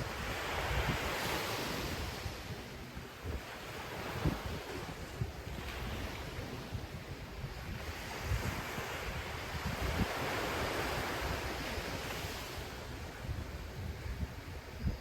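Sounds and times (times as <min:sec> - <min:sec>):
ocean surf breaking: 0:00.0 - 0:06.8, 0:07.6 - 0:13.7
wind rumbling on microphone: 0:00.0 - 0:15.0.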